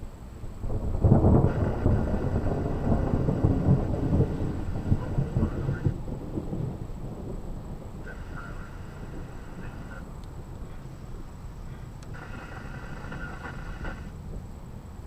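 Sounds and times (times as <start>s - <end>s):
thunder clap and rumble: 0.0s - 15.0s.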